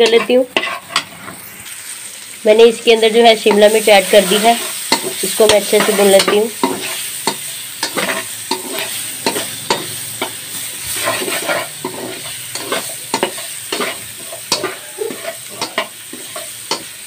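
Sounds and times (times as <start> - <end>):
spatula scraping a wok: 0.0 - 1.8, 3.3 - 17.0
peppers sizzling in hot oil: 0.0 - 17.0.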